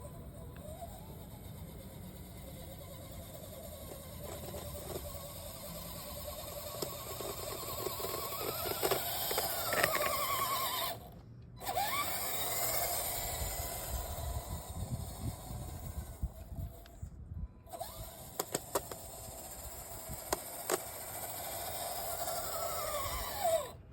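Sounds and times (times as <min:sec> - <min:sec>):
electric motor whining: 0:00.0 - 0:23.8.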